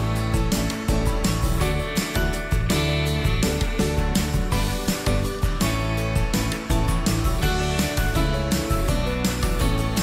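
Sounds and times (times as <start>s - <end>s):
upbeat music with plucked guitar: 0.0s - 10.0s.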